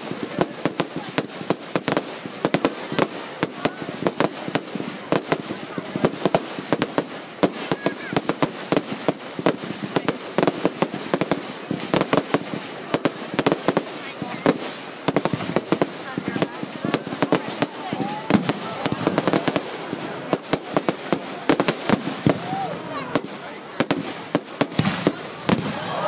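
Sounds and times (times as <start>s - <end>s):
fireworks and firecrackers banging: 0.0s - 26.0s.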